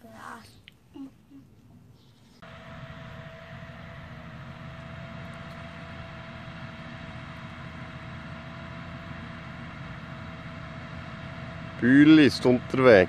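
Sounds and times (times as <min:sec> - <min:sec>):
tractor engine drone: 0:02.4 - 0:13.0.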